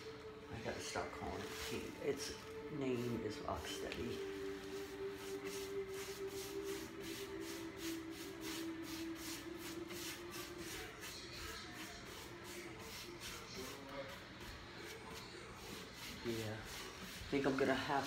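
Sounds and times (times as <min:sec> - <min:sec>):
paintbrush scrubbing on wood: 0:00.9 - 0:02.4, 0:03.0 - 0:18.0.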